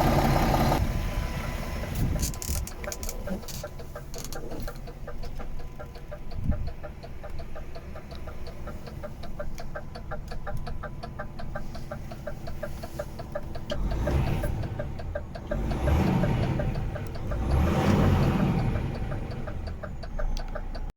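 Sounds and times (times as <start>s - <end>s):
diesel truck engine idling: 0.0s - 20.9s
truck engine revving: 0.0s - 20.9s.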